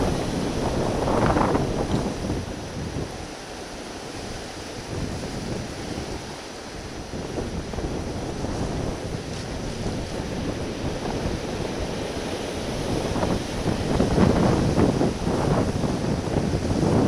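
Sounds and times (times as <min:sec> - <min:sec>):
sea swell on rocks: 0:00.0 - 0:17.0
wind buffeting microphone: 0:00.0 - 0:17.0.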